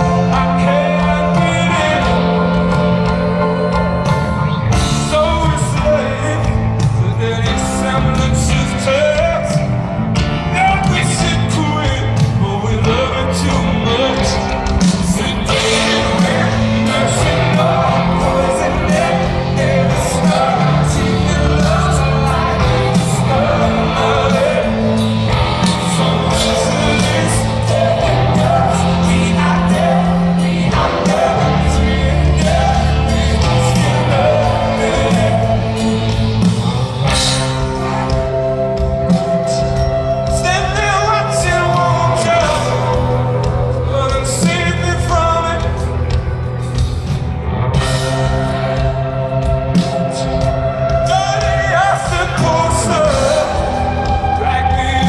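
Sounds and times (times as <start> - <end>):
man singing: 0.0 - 46.2, 49.7 - 55.0
live rock band playing: 0.0 - 55.0.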